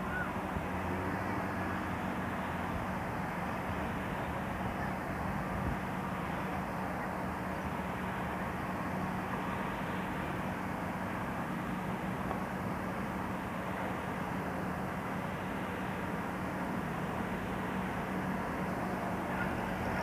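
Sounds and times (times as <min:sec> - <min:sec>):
constant low hum: 0:00.0 - 0:20.0
distant traffic drone: 0:00.0 - 0:20.0.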